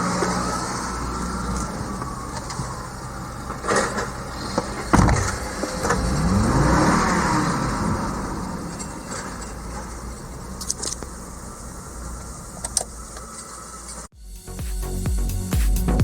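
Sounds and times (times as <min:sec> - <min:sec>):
engine idling and revving: 0:00.0 - 0:16.0.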